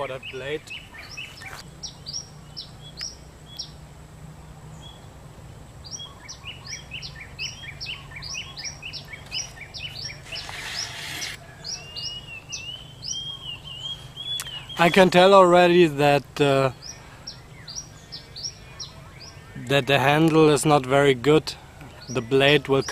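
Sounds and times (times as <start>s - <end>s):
birds chirping: 0.0s - 22.9s
steady low background hum: 0.0s - 22.9s.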